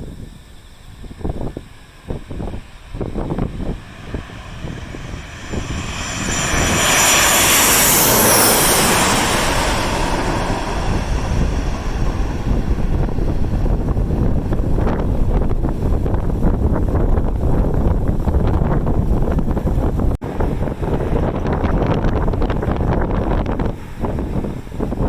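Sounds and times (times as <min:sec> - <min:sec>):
airliner passing overhead: 0:00.0 - 0:25.0
wind buffeting microphone: 0:00.0 - 0:25.0.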